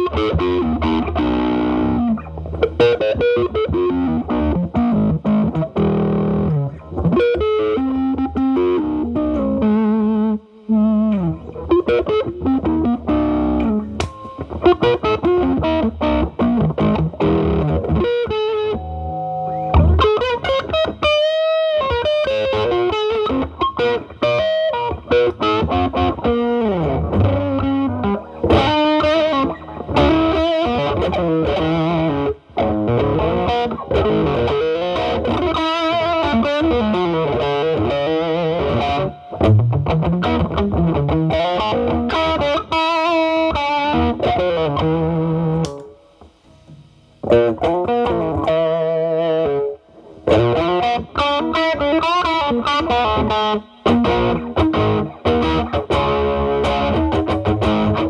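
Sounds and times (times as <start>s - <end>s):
overdriven electric guitar blues lead: 0.0s - 58.0s.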